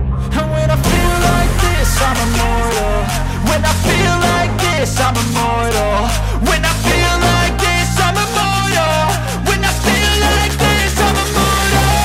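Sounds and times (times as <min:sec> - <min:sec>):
hip-hop music: 0:00.0 - 0:12.0.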